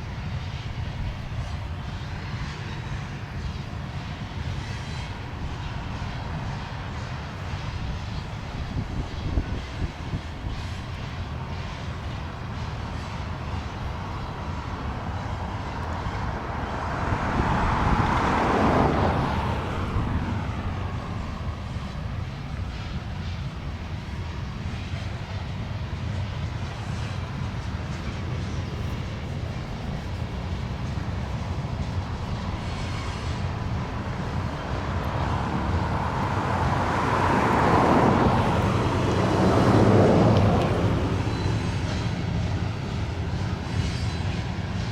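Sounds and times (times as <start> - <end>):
low diesel drone: 0.0 - 44.9
train wheels rumbling on rails: 0.0 - 44.9.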